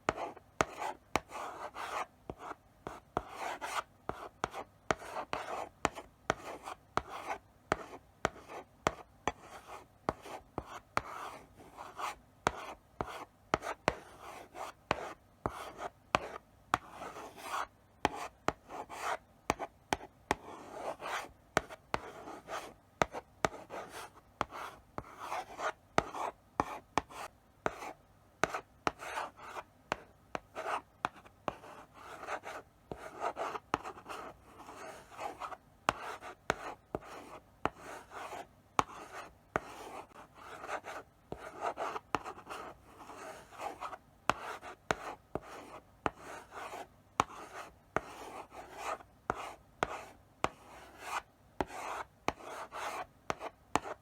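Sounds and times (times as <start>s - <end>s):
chalk tapping on board: 0.0s - 11.2s, 11.9s - 14.0s, 14.6s - 27.8s, 28.4s - 54.0s.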